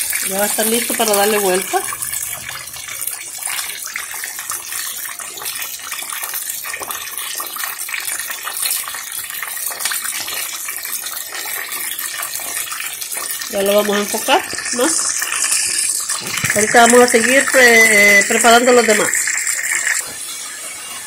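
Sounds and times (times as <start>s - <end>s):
fish deep-frying in oil: 0.0s - 21.0s.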